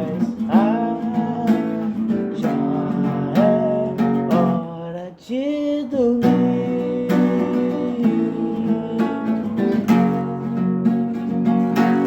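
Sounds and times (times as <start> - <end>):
person singing: 0.0 - 10.5
acoustic guitar strumming: 0.0 - 12.0.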